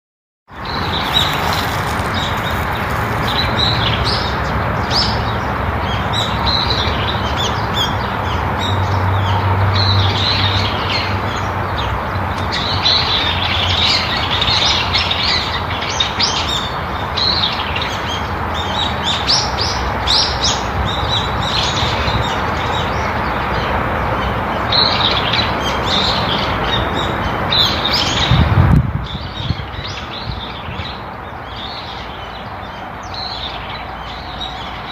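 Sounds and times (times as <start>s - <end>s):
birds chirping and calling: 0.6s - 34.9s.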